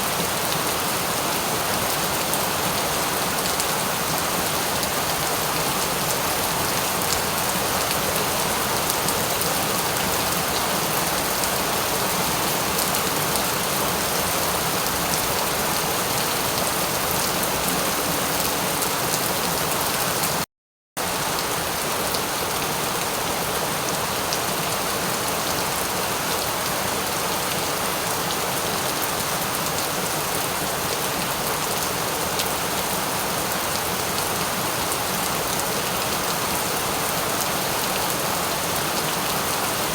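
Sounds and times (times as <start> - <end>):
steady rain falling: 0.0 - 20.4, 21.0 - 39.9.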